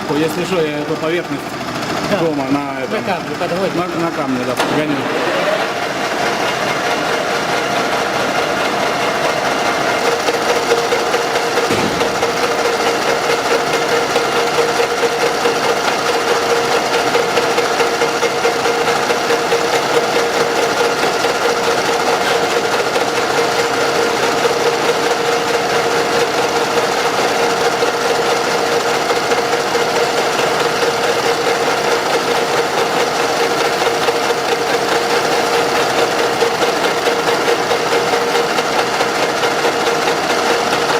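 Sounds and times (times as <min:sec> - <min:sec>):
machine tool cutting metal: 0:00.0 - 0:40.9.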